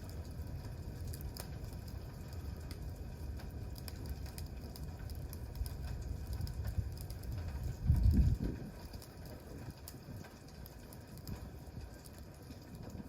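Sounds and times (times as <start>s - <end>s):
campfire crackling and popping: 0.0s - 13.0s
fire low rumble: 0.0s - 13.0s.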